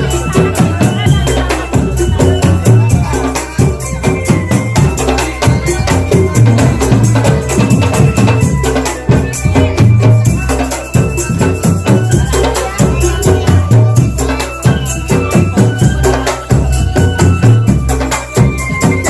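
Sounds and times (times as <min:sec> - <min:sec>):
heavy bass drum beats: 0:00.0 - 0:19.0
thin held melody line: 0:00.0 - 0:19.0.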